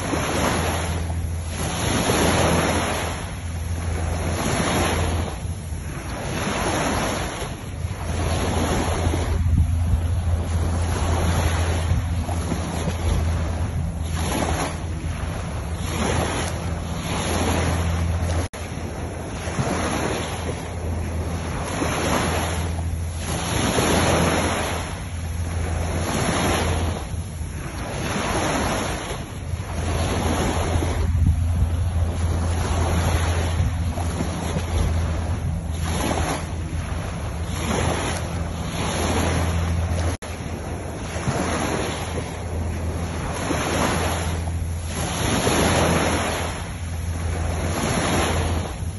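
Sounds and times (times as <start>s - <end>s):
low steady rumble: 0.0s - 48.9s
waves breaking on beach: 0.0s - 48.9s
wind on microphone: 0.0s - 48.9s.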